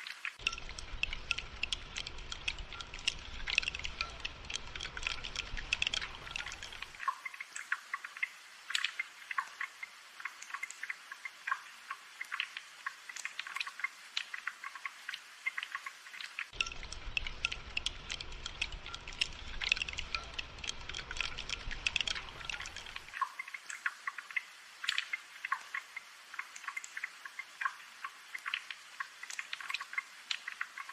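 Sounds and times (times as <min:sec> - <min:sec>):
raindrops dripping: 0:00.0 - 0:30.9.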